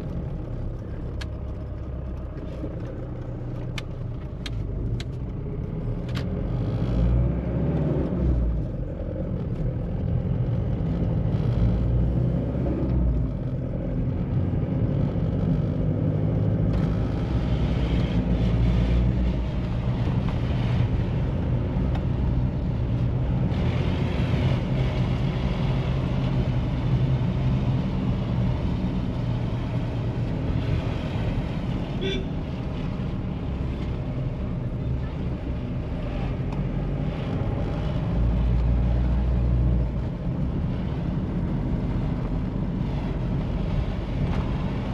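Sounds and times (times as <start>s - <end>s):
diesel engine of driving car: 0.0s - 44.9s
road and tyre noise: 0.0s - 44.9s.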